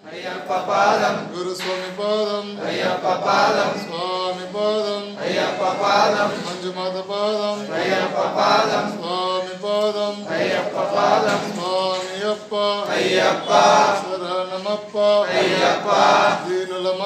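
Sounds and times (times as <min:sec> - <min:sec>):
man chanting mantras: 0:00.0 - 0:17.0.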